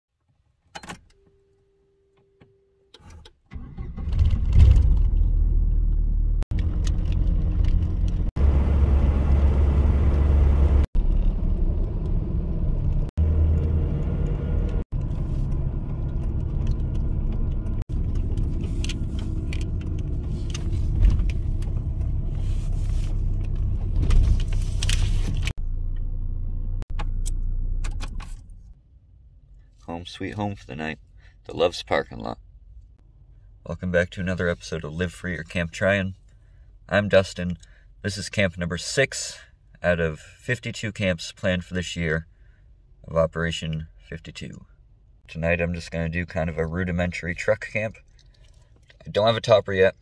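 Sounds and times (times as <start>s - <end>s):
engine and road rumble: 3.0s - 50.0s.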